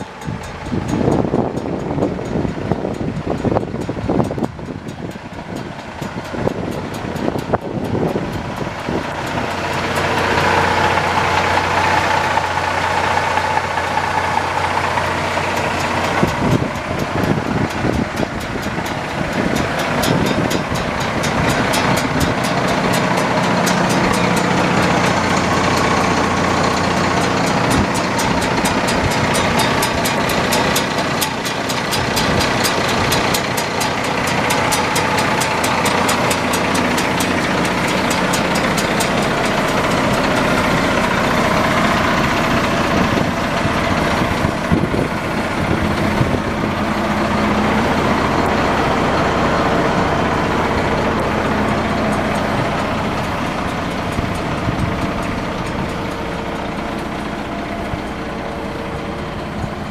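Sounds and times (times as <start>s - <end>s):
diesel engine idling with clatter: 0.0s - 59.9s.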